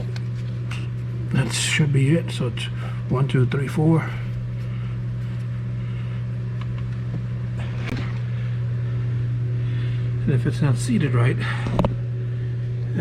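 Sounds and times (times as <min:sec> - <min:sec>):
smoke machine pump humming: 0:00.0 - 0:13.0.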